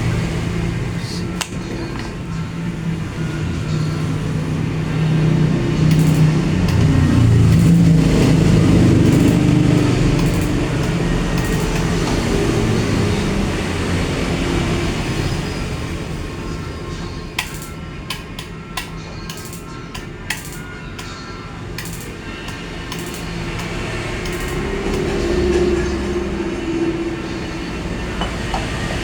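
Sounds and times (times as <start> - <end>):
low engine rumble: 0.0 - 29.0.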